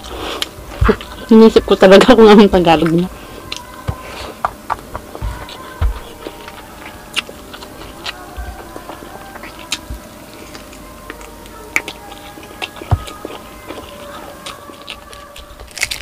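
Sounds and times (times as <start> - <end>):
person chewing food: 2.8 - 16.0.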